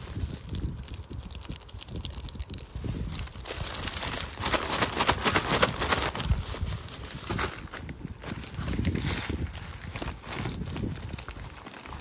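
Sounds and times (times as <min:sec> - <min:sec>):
paper bag rustling and rattling: 0:00.0 - 0:12.0.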